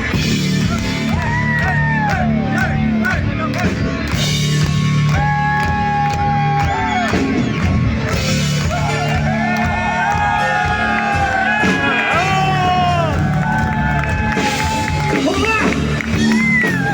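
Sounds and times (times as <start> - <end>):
rock band playing live: 0.0 - 16.9.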